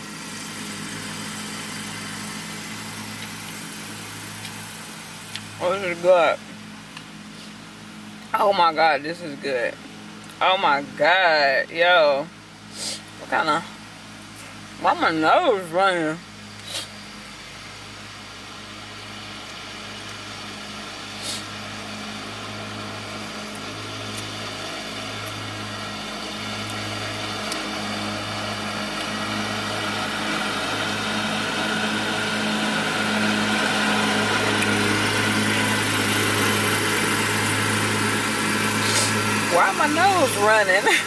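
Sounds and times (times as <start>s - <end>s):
truck engine idling: 0.0s - 8.6s, 12.2s - 41.0s.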